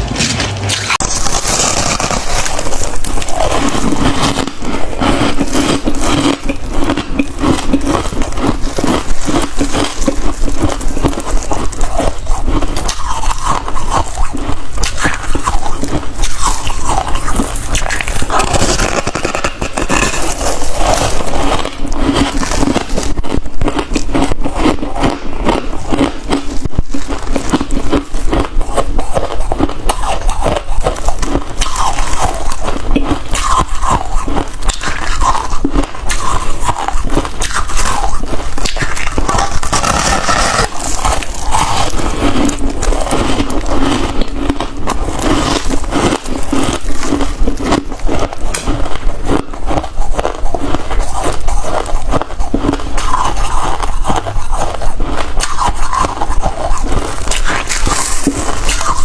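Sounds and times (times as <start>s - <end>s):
frost being chewed crunching: 0.8s - 59.0s.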